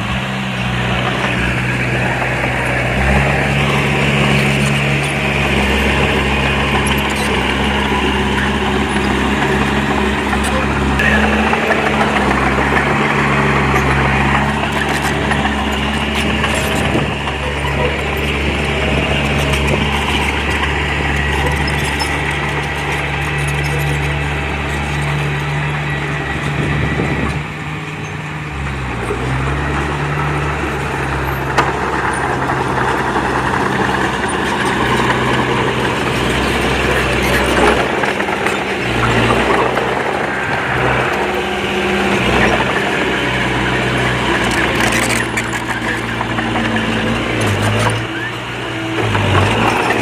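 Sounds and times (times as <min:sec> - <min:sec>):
bulldozer diesel engine working: 0:00.0 - 0:50.0.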